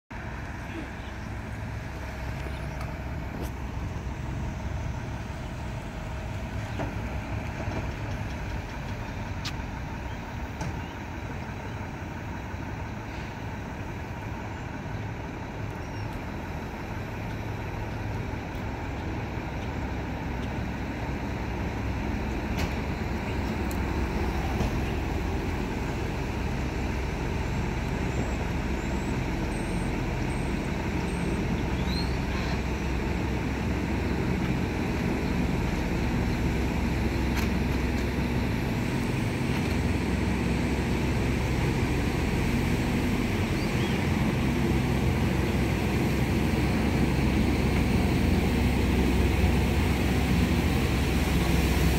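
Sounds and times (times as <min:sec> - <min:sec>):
truck diesel engine rumbling: 0:00.0 - 0:51.9.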